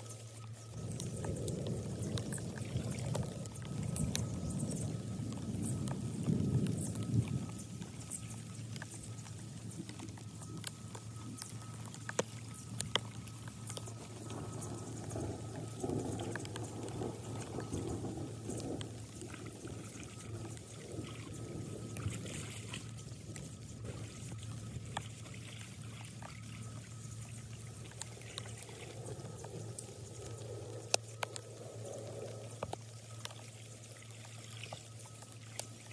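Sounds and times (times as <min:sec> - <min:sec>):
water pouring into storm drain: 0:00.0 - 0:35.9.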